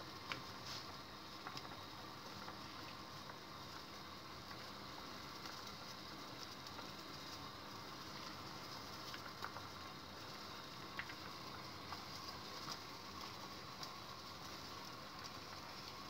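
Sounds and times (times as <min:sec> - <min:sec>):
broth bubbling in saucepan: 0:00.0 - 0:16.0.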